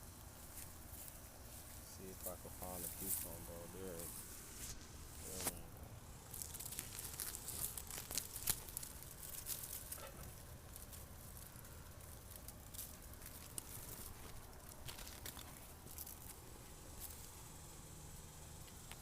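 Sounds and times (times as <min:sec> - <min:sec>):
leaves and vines rustling: 0:00.0 - 0:19.0.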